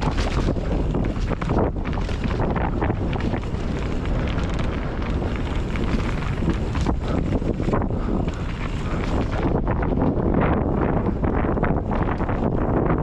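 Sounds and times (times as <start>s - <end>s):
bike clattering over rough ground: 0.0s - 13.0s
wind on microphone: 0.0s - 13.0s.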